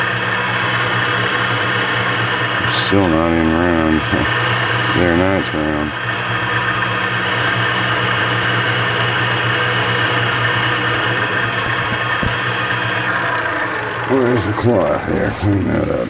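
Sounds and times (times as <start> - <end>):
lathe motor humming and whining: 0.0 - 16.0.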